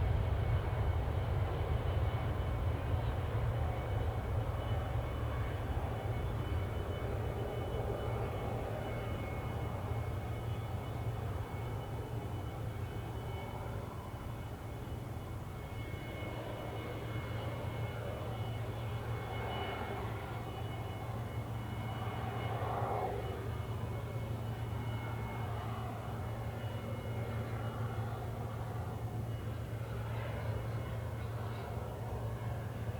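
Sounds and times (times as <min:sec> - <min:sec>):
jet engines at takeoff: 0:00.0 - 0:32.9.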